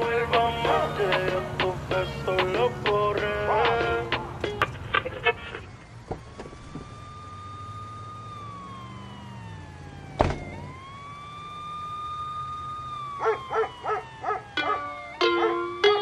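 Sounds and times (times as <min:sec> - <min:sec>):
siren wailing: 0:00.0 - 0:16.0.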